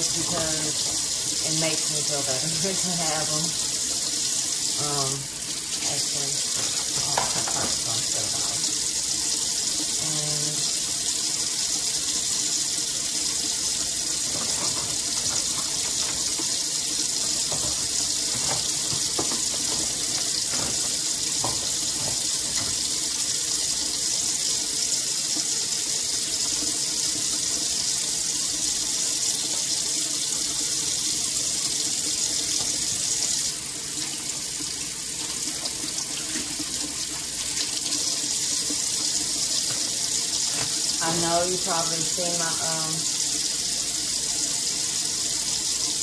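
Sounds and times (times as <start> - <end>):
faucet running into sink: 0.0 - 46.0.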